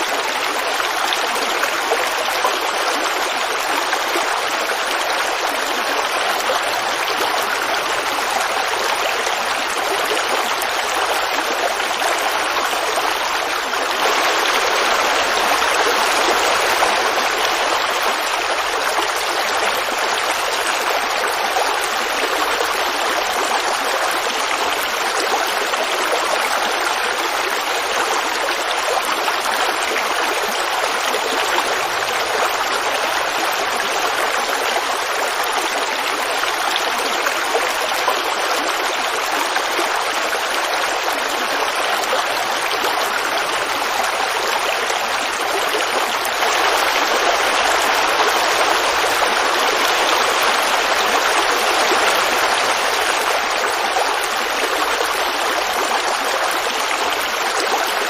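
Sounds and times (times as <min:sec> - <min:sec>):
creek water babbling: 0:00.0 - 0:58.0.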